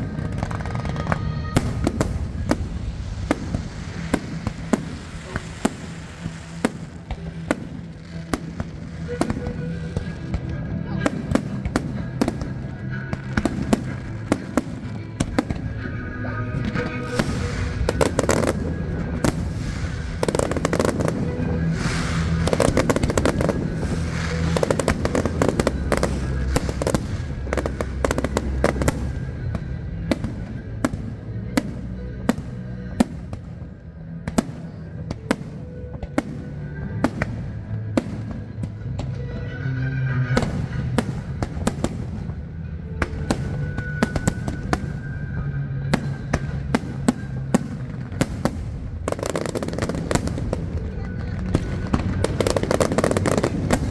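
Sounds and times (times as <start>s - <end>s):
fireworks bangs and crackles: 0.0s - 53.9s
show music: 0.0s - 53.9s.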